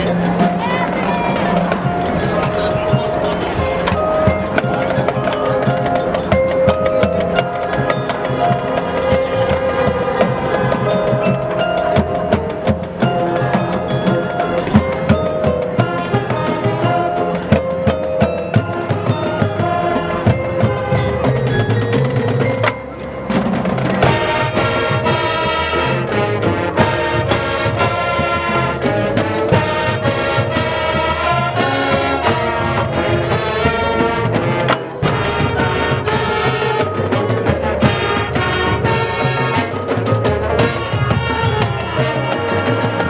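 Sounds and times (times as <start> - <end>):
brass band playing: 0.0 - 43.0
percussion strokes: 0.0 - 43.0.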